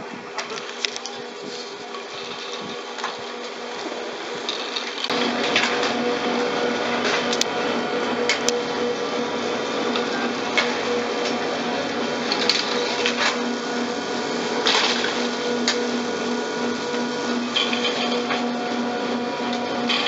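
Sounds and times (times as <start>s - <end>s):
ski lift machinery humming: 0.0s - 20.0s.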